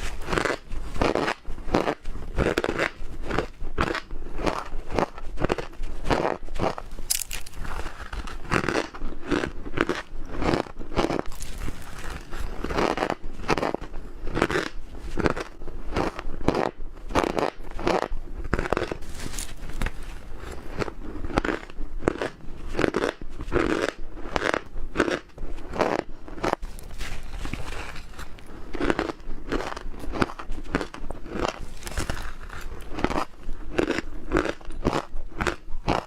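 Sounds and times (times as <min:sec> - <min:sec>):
ice crunching being chewed: 0:00.0 - 0:36.0.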